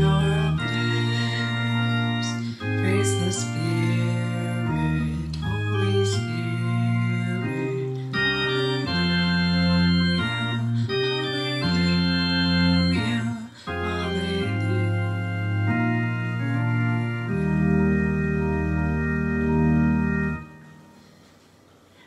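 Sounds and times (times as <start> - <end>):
organ hymn chords: 0.0 - 21.5.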